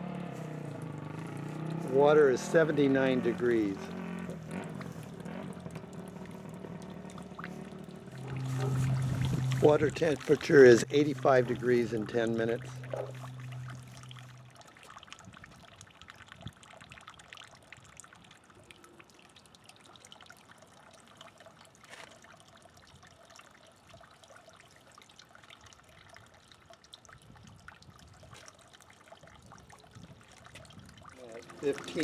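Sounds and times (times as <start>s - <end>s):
faint water trickle: 0.0s - 32.0s.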